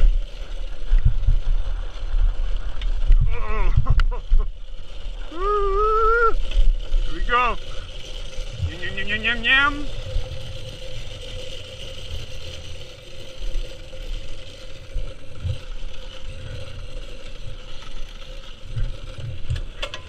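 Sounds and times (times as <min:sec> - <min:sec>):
chain and drivetrain rattling: 0:00.0 - 0:20.0
steady hum: 0:00.0 - 0:20.0.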